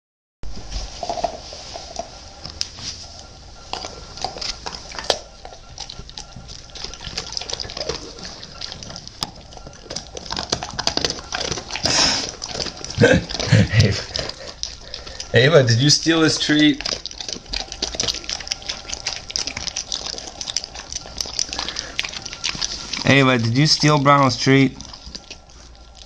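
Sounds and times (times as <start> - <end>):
dog chewing treat: 0.8 - 26.0.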